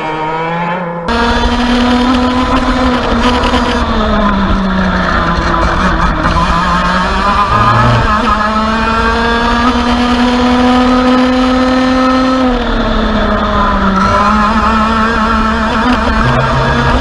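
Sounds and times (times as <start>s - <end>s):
kart engine revving high: 0.0s - 17.0s.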